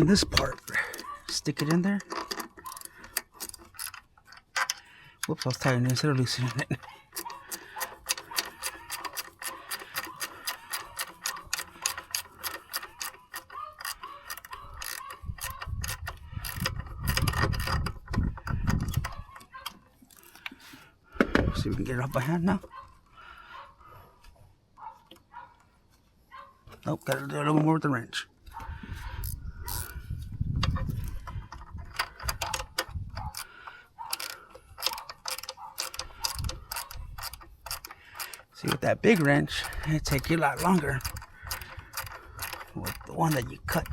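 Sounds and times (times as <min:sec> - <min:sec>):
ratcheting wrench clicking: 0:00.0 - 0:20.5, 0:28.9 - 0:43.9.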